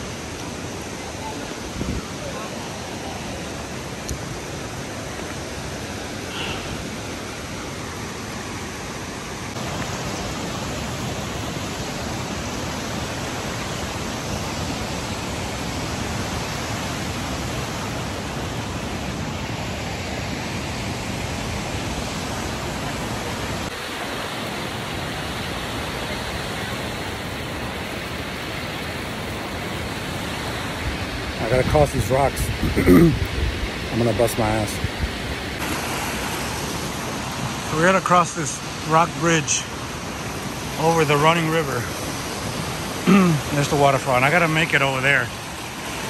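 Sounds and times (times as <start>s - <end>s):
waterfall and rapids roaring: 0.0s - 46.0s.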